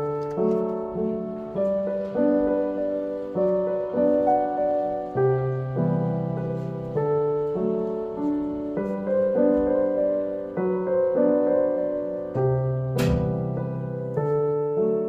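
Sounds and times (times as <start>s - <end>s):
gentle slow piano music: 0.0s - 15.0s.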